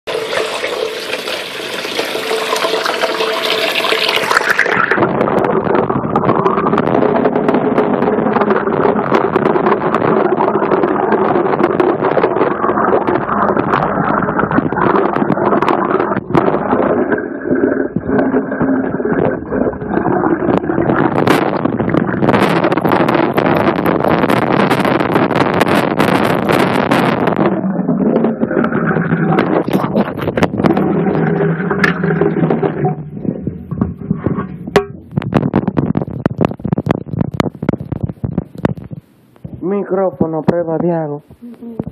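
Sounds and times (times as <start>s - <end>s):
water pouring underwater: 0.0s - 40.9s.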